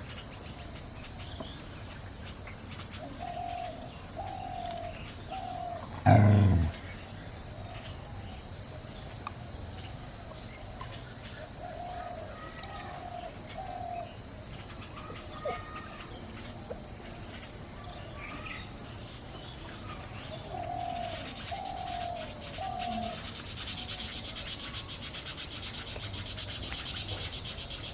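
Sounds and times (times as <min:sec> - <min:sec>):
small birds chirping: 0:00.0 - 0:27.9
dove cooing: 0:02.1 - 0:08.7, 0:10.0 - 0:27.9.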